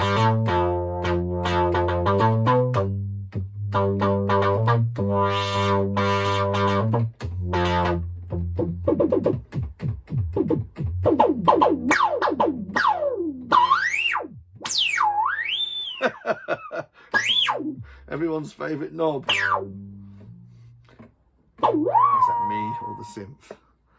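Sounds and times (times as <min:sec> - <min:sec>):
buzzy synthesizer bass notes: 0:00.0 - 0:16.0, 0:17.2 - 0:20.9, 0:21.6 - 0:23.4.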